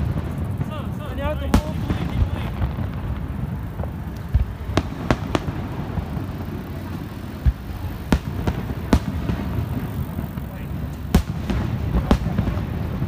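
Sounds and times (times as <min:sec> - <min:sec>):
fireworks bursting with sharp bangs: 0:00.0 - 0:13.0
low rumble: 0:00.0 - 0:13.0.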